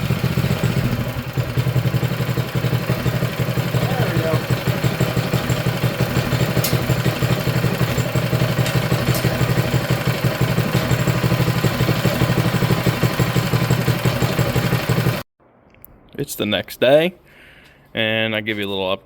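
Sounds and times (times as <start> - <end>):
small engine idling: 0.0 - 15.3.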